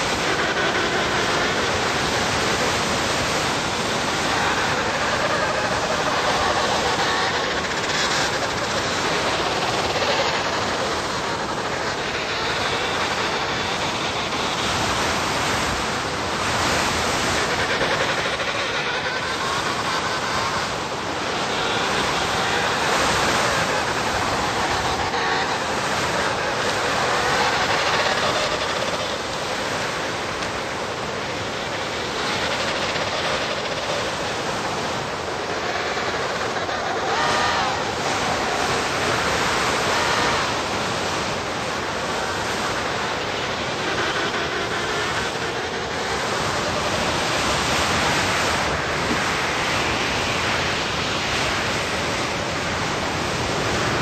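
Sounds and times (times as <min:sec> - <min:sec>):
blizzard wind blowing hard: 0:00.0 - 0:54.0.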